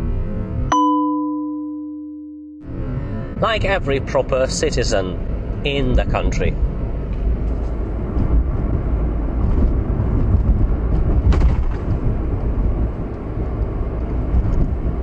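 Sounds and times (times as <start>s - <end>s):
road and engine rumble: 0.0s - 1.4s, 2.6s - 15.0s.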